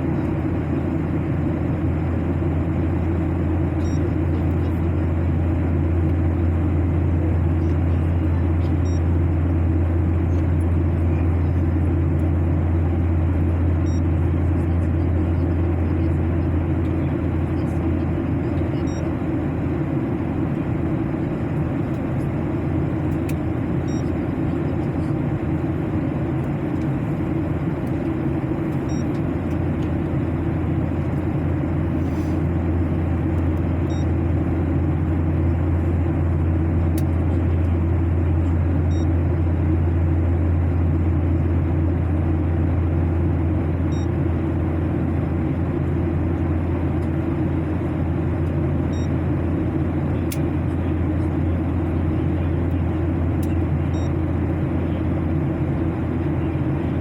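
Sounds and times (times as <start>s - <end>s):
airliner engine and airflow rumble: 0.0s - 57.0s.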